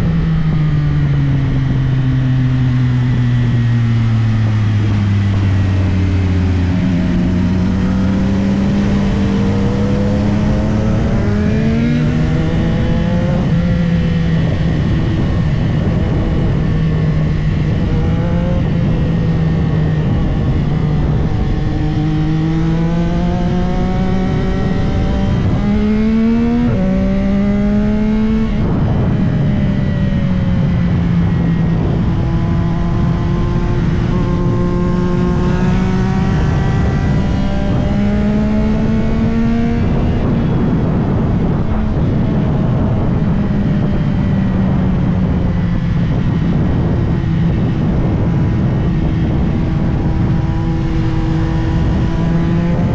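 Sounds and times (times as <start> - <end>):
motorcycle engine revving through gears: 0.0 - 52.9
wind rushing: 0.0 - 52.9.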